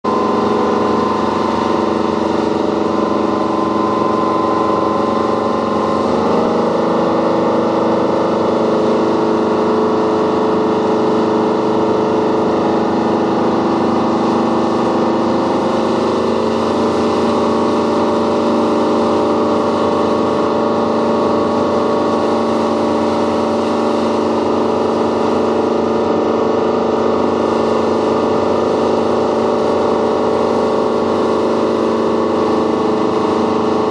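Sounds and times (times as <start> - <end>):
motorboat engine running: 0.0 - 33.9
water rushing along hull: 0.1 - 33.9.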